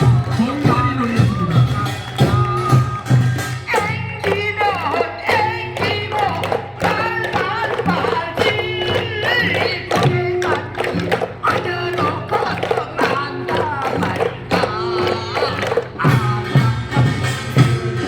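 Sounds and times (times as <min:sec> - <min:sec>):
person singing ornamented phrases: 0:00.0 - 0:17.1
percussion beats: 0:00.0 - 0:18.0.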